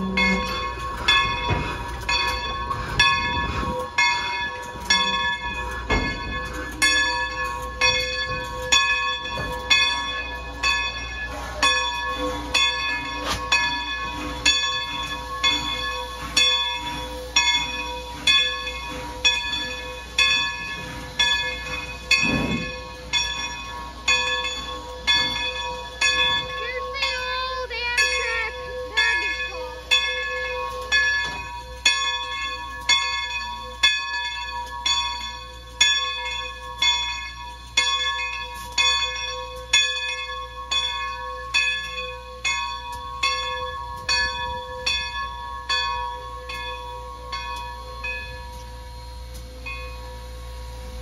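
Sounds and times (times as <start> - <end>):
steam locomotive bell ringing: 0.0 - 51.0
train rolling rumble: 0.0 - 51.0.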